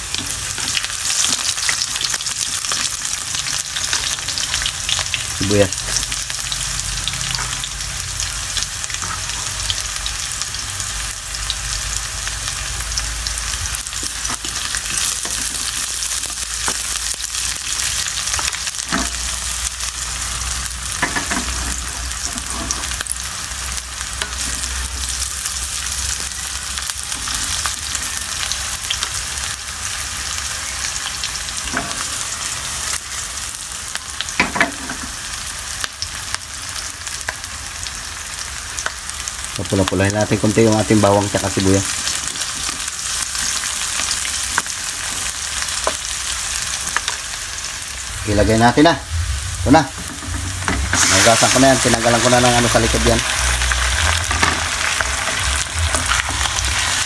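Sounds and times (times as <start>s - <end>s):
garlic and onion sizzling in oil: 0.0s - 57.0s.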